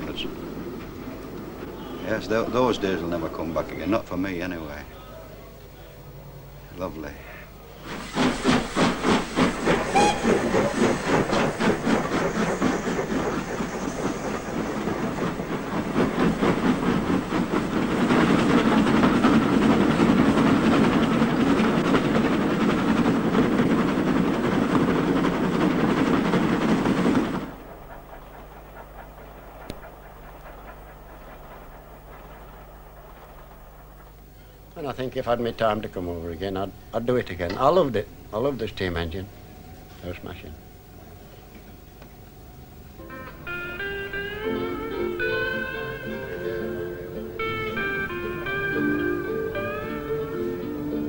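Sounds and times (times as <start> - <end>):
steam locomotive exhaust beats: 0.0 - 51.0.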